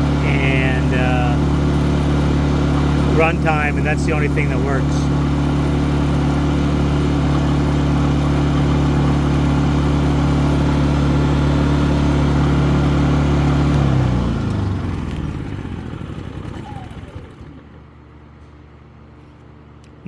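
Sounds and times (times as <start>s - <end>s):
generator running: 0.0s - 20.0s.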